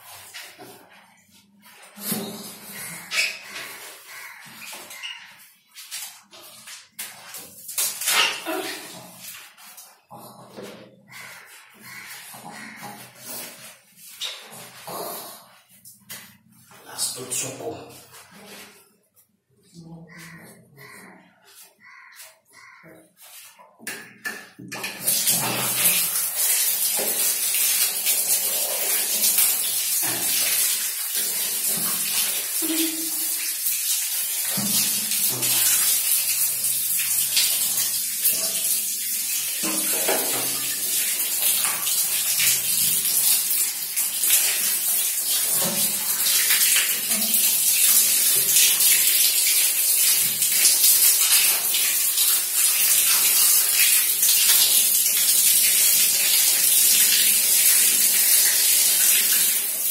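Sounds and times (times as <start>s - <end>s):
water splashing on tiled floor: 0.0s - 18.9s, 19.8s - 59.9s.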